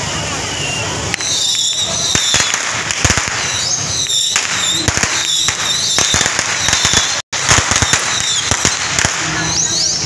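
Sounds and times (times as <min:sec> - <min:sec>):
firecrackers banging: 0:00.0 - 0:10.0.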